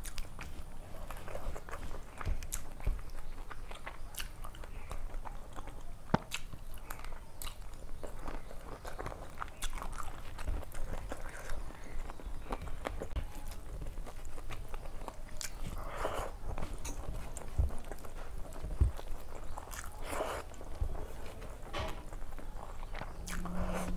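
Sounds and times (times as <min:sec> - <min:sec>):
wet chewing and mouth smacks: 0:00.0 - 0:23.9.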